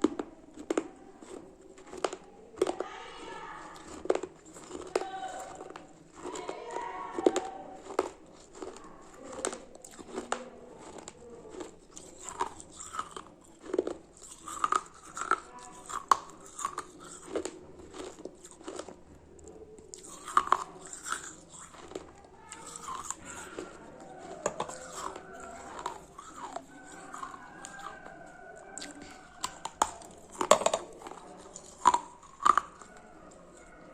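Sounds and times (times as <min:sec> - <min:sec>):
crunchy chewing and biting: 0:00.0 - 0:33.9.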